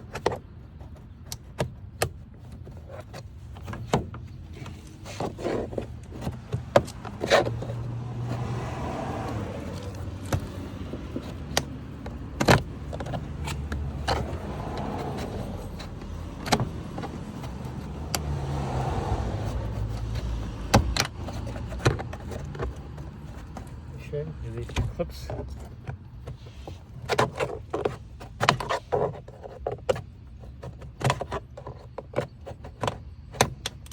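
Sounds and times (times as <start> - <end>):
vehicles passing: 0.0 - 33.9.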